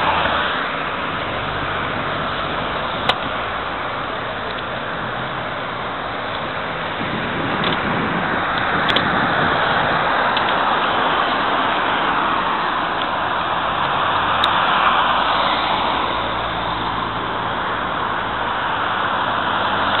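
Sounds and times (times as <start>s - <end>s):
road traffic rushing: 0.0s - 20.0s.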